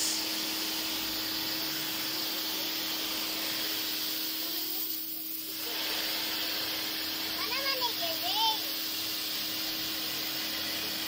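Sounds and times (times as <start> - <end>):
pressure washer spraying concrete: 0.0 - 11.0
steady hum: 0.0 - 11.0.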